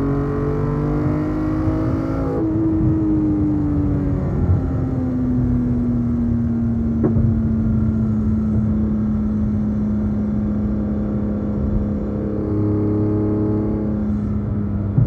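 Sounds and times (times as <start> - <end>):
car engine running: 1.8 - 15.0.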